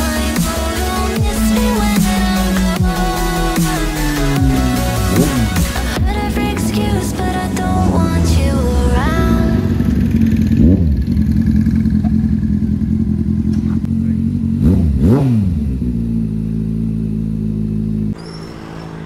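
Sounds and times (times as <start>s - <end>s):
another motorcycle idling: 0.0s - 18.2s
motorcycle idling: 0.0s - 19.0s
motorcycle throttle blips: 0.4s - 19.0s.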